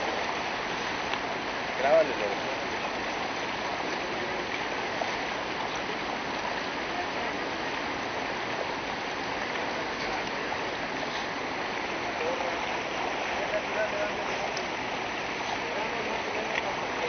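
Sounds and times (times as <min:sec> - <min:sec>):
rushing splashing water: 0:00.0 - 0:17.0.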